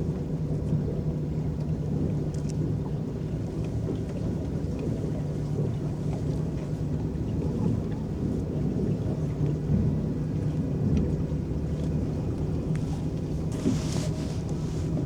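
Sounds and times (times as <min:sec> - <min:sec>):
boat motor rumble: 0:00.0 - 0:15.0
water lapping: 0:01.5 - 0:15.0.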